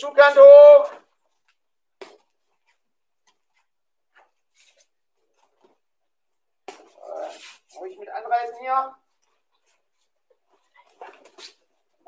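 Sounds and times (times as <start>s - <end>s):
jacket rustling: 0.1s - 12.0s.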